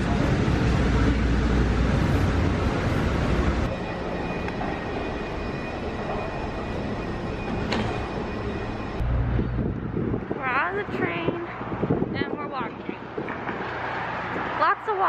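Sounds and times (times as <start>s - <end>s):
station ambience: 0.0s - 14.7s
subway train rumble and rattle: 0.0s - 14.8s.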